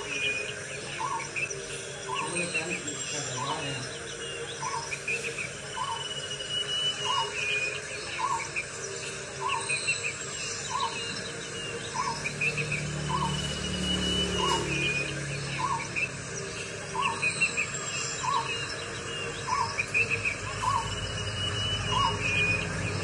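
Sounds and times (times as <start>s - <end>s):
high bird chirps: 0.0s - 23.0s.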